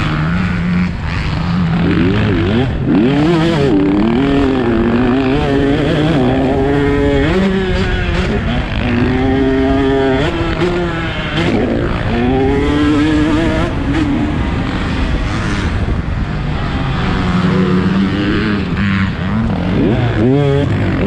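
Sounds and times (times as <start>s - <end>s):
two-stroke engine revving hard: 0.0s - 21.0s.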